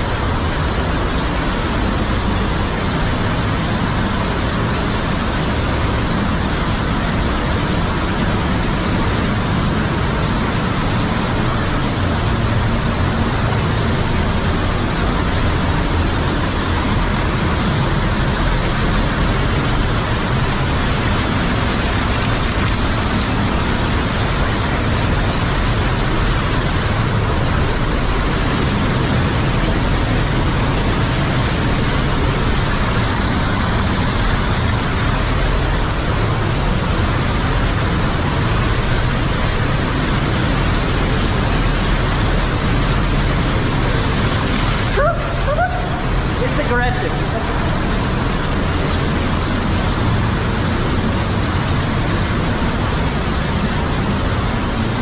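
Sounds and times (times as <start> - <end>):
cave waterfall roaring: 0.0 - 55.0.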